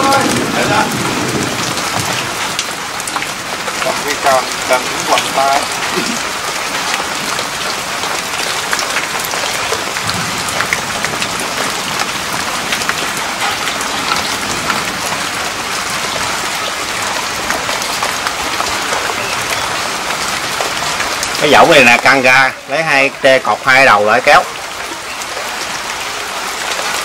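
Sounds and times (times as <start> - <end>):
water drops pattering: 0.0 - 27.0.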